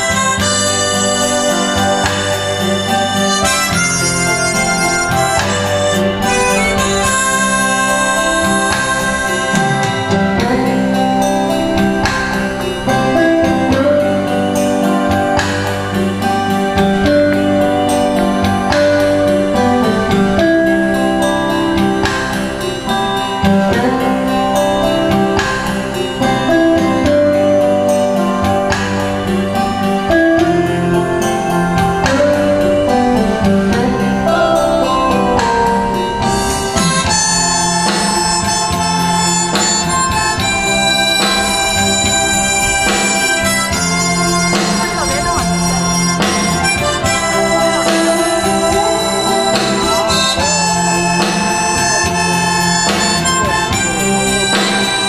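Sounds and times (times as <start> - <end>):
backing track with keyboard and guitar: 0.0 - 55.0
harmonica through pa: 0.0 - 55.0.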